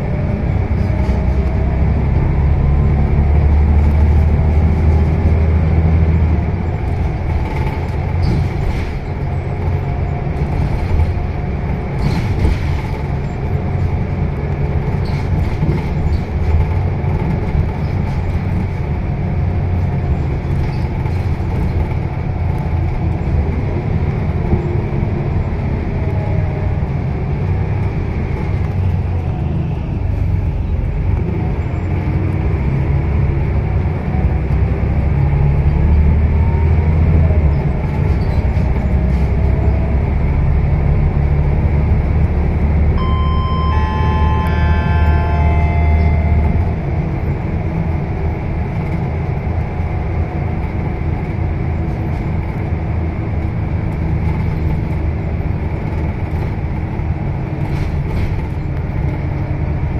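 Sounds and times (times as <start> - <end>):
bus engine rumble: 0.0 - 59.9
road noise: 0.0 - 59.9.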